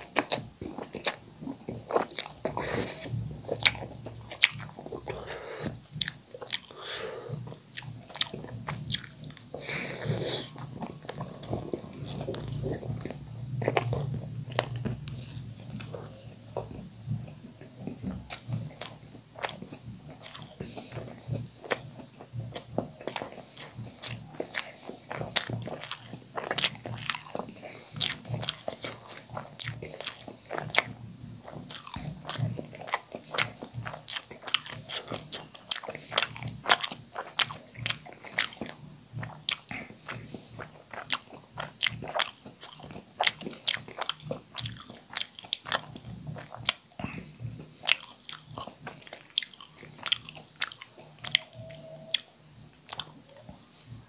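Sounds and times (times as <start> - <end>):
wet chewing mouth clicks: 0.0 - 53.6.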